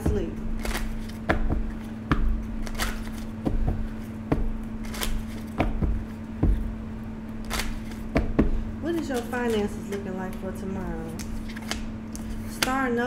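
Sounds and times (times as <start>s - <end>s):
steady low hum: 0.0s - 13.0s
cards being shuffled: 0.5s - 6.7s, 7.4s - 12.8s.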